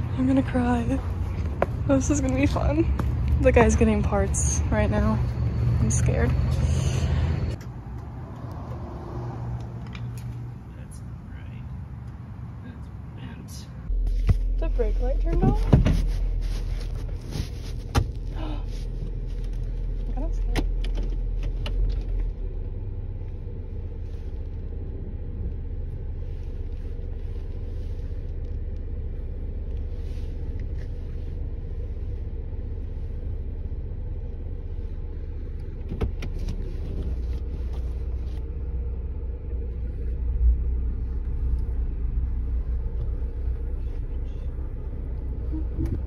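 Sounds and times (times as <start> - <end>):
road and engine rumble: 0.0 - 46.0.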